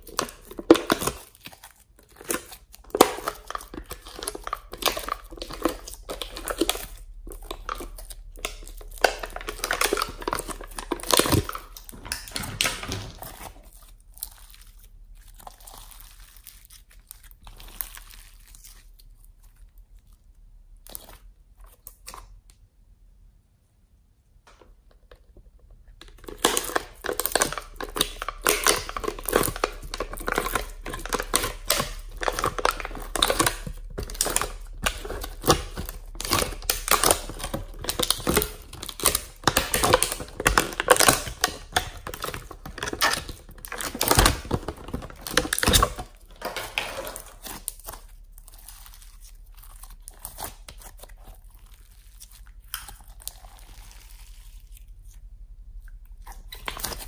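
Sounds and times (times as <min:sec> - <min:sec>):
slime crackling and squelching: 0:00.0 - 0:22.4, 0:24.5 - 0:57.0.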